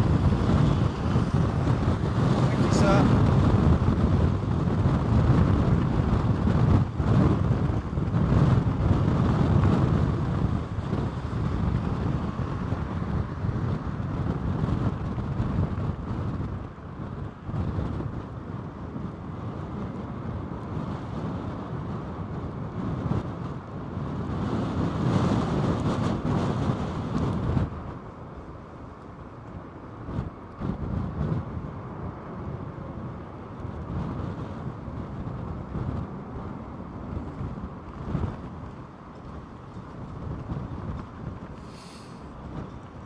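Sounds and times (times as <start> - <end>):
gale wind buffeting microphone: 0.0 - 43.0.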